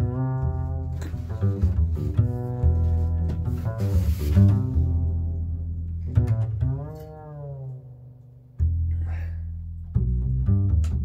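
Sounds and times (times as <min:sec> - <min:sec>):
plucked and bowed string music: 0:00.0 - 0:11.0.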